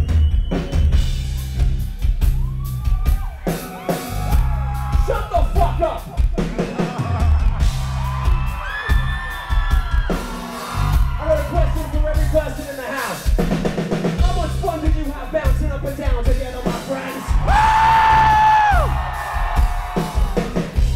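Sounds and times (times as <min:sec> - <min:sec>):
live rock band playing: 0:00.0 - 0:20.9.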